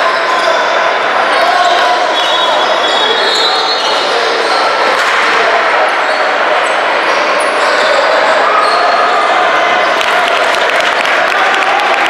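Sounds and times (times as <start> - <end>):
spectators chattering and shouting: 0.0 - 12.0.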